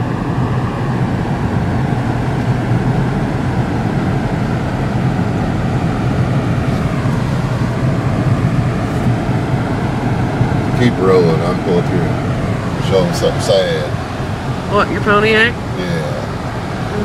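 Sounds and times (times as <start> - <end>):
car interior engine hum: 0.0 - 17.0
tyre road rumble: 0.0 - 17.0.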